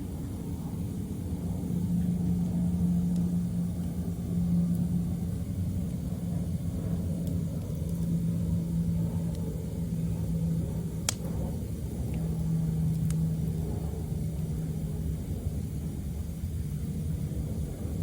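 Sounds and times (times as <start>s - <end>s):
low rumble and hum: 0.0s - 18.0s
wood fire crackling: 1.1s - 18.0s.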